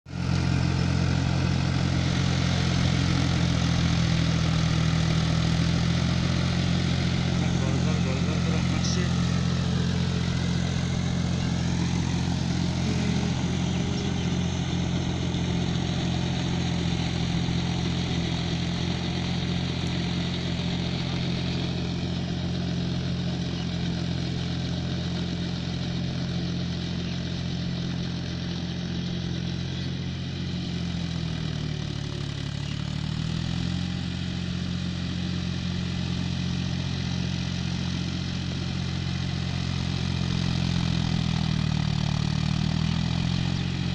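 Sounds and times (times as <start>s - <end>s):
tractor diesel engine running: 0.1s - 43.9s.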